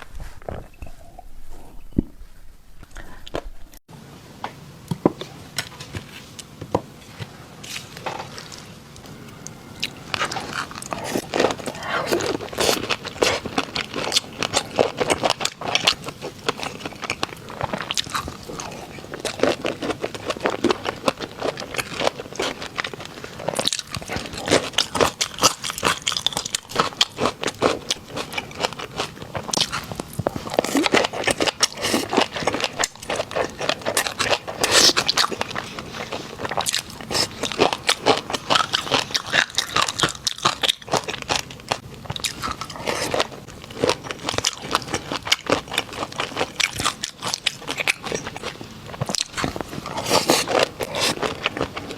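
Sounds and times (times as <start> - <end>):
chewing crunchy snack: 7.7 - 51.9.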